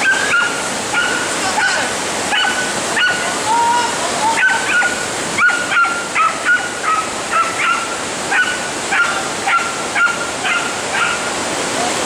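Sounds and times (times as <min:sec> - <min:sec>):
dog yapping: 0:00.0 - 0:03.3, 0:04.4 - 0:11.2
rush of white-water rapids: 0:00.0 - 0:12.0.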